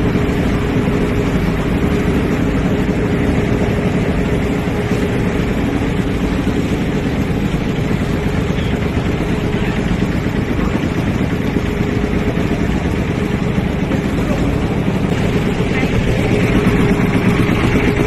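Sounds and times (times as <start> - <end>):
boat engine running steadily: 0.0 - 18.0.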